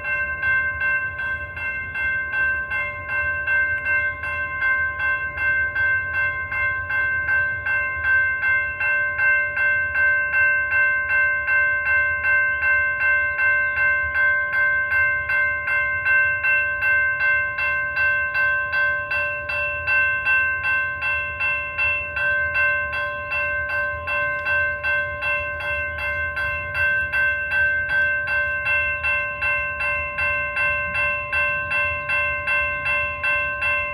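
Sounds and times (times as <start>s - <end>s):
railroad crossing bell ringing: 0.0s - 33.9s.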